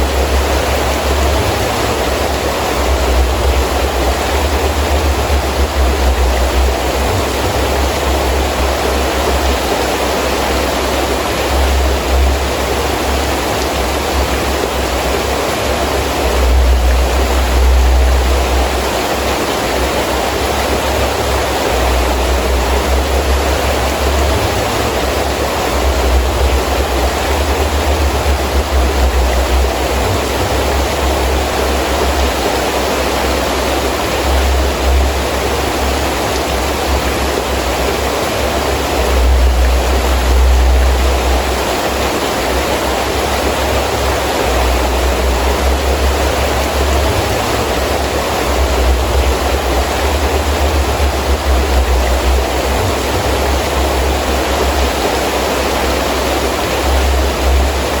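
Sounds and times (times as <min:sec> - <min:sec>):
heavy rain falling: 0:00.0 - 0:58.0
wind gusting in low rumbles: 0:00.0 - 0:58.0.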